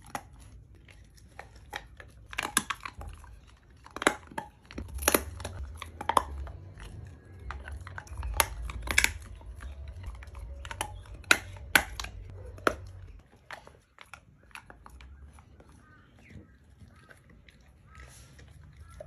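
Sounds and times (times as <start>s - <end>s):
dog chewing and crunching food: 0.0s - 19.0s.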